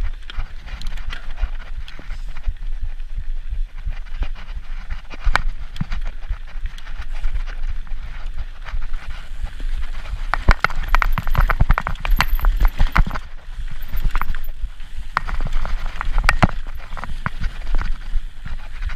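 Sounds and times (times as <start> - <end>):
mountain bike rattling over rocks: 0.0 - 18.9
wind on microphone: 0.0 - 18.9.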